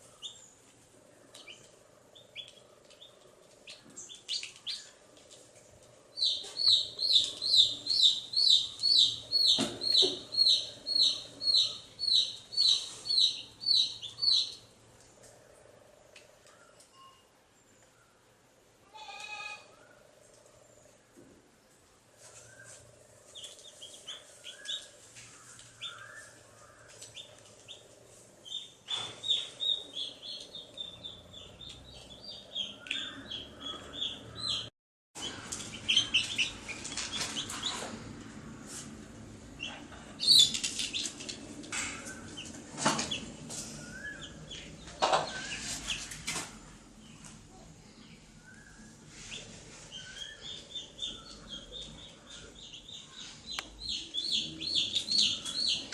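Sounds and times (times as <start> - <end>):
baby chicks peeping: 0.0 - 5.4, 6.2 - 14.7, 22.3 - 38.2, 39.5 - 55.9.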